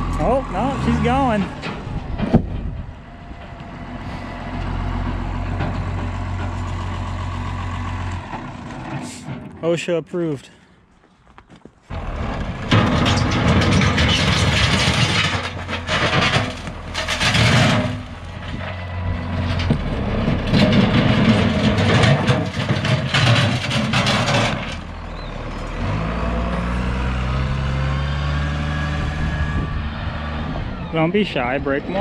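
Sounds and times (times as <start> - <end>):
tractor engine labouring and revving: 0.0 - 10.0, 11.9 - 32.0.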